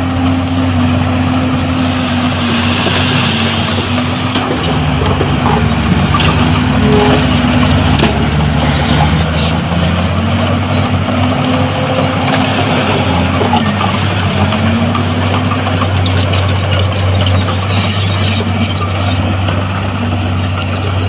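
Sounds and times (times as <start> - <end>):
heavy diesel engine under load: 0.0 - 21.0.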